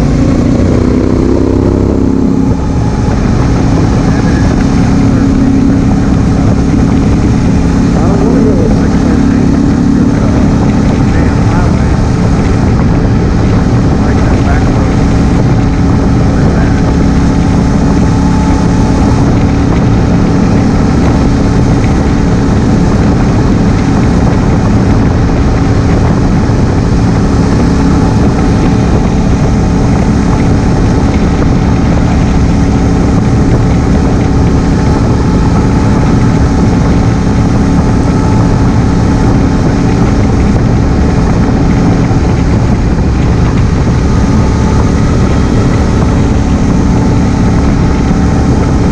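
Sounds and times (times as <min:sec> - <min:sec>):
motorcycle engine cruising: 0:00.0 - 0:48.9
wind rushing over microphone: 0:00.0 - 0:48.9.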